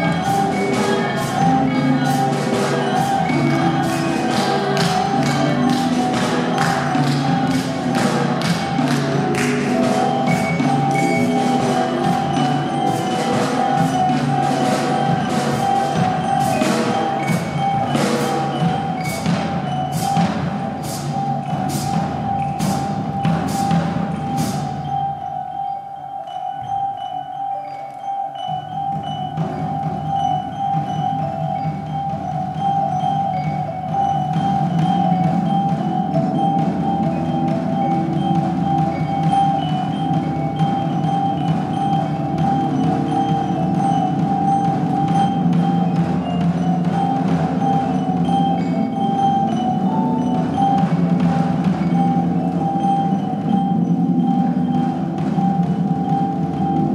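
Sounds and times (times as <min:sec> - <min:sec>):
sharp percussion strikes: 0:00.0 - 0:56.9.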